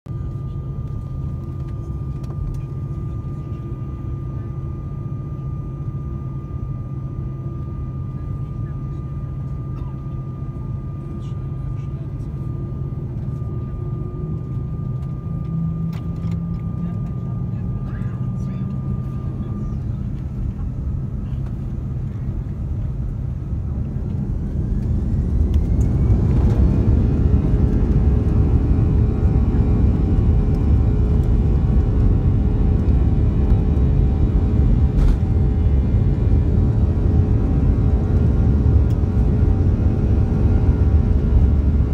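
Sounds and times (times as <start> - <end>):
jet engine high whine: 0.1 - 41.9
jet engines rumbling: 0.3 - 41.9.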